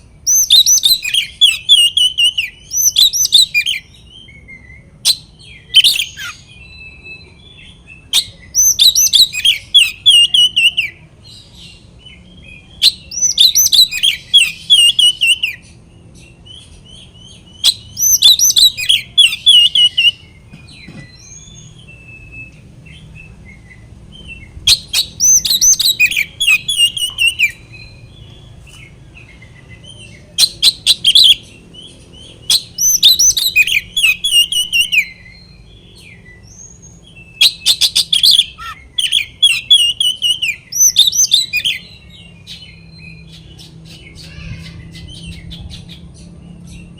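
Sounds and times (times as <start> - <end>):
bird singing whistled phrases: 0.2 - 11.0, 11.7 - 28.4, 29.3 - 43.7.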